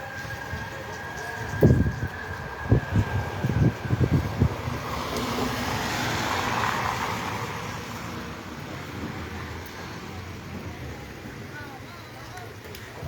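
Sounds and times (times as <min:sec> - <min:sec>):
road vehicle passing: 0:00.0 - 0:11.6.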